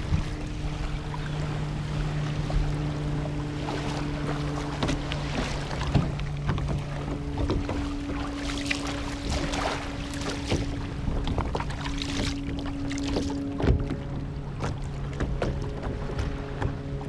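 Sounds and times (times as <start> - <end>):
steady low hum: 0.0 - 17.0
water sloshing against kayak hull: 0.0 - 17.0.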